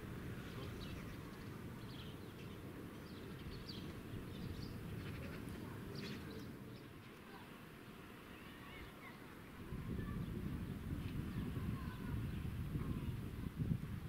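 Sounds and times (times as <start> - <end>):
small birds chirping: 0.2 - 13.2.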